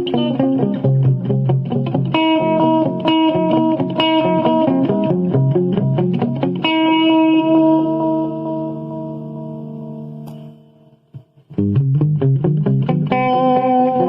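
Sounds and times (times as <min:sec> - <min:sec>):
electric guitar with delay echoes: 0:00.0 - 0:14.0.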